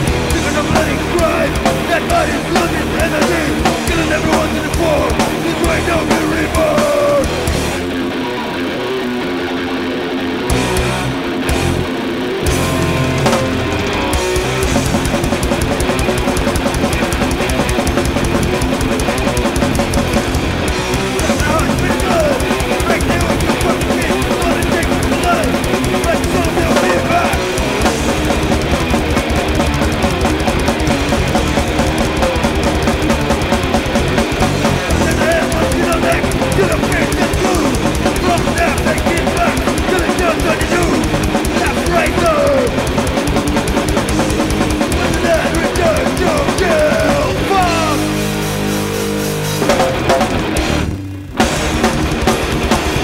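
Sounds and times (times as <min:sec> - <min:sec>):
fast drumming: 0:00.0 - 0:08.1, 0:10.5 - 0:53.0
bass guitar: 0:00.0 - 0:53.0
distorted electric guitars: 0:00.0 - 0:53.0.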